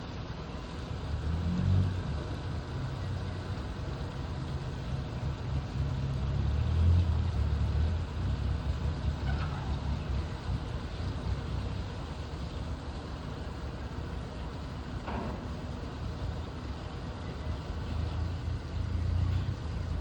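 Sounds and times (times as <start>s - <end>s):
tugboat engine rumbling: 0.0s - 20.0s.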